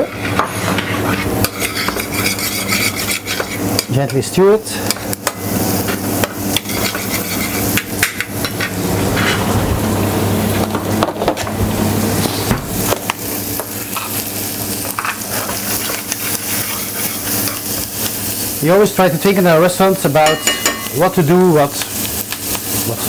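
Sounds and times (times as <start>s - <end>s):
food sizzling in saucepan: 0.0s - 11.0s, 11.9s - 23.0s.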